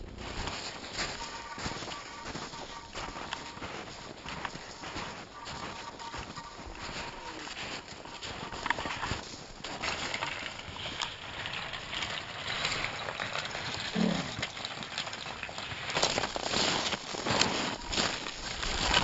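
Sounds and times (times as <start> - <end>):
footsteps crunching in snow: 0.0 - 19.0.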